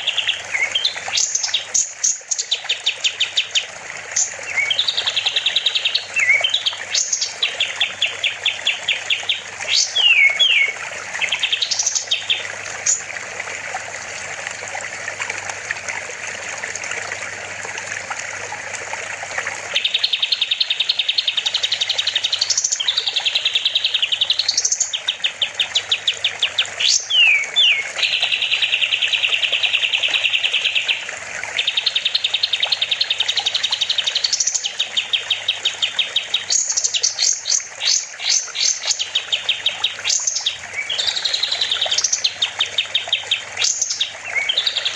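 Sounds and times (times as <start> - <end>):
songbird singing trills: 0.0 - 13.1, 19.8 - 44.9
running water trickling: 0.0 - 44.9.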